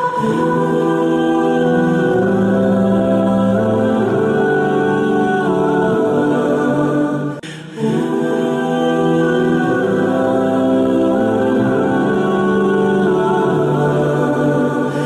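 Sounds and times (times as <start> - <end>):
wordless choir-like voices: 0.0 - 15.0.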